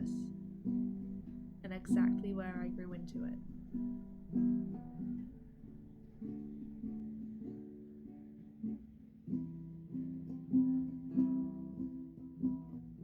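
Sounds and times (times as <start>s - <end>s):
guitar chords: 0.0s - 13.0s.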